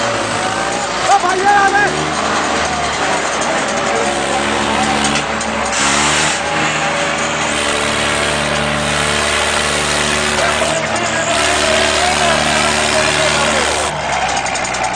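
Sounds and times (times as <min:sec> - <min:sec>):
crowd shouting: 0:00.0 - 0:14.9
tractor diesel engines running hard: 0:00.0 - 0:14.9.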